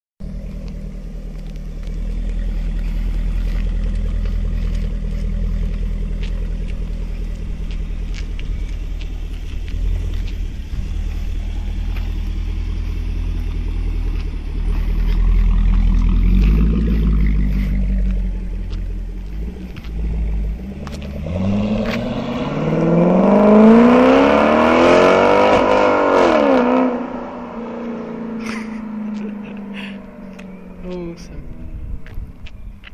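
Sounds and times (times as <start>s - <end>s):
car engine idling and accelerating: 0.2s - 32.9s.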